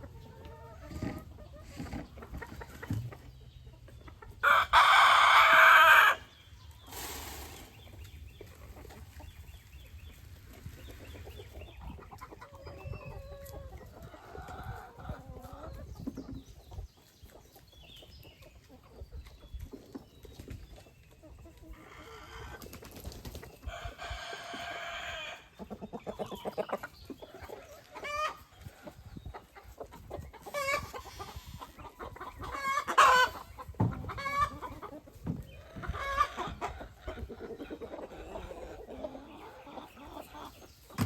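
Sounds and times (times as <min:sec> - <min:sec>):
chickens clucking: 0:00.0 - 0:41.0.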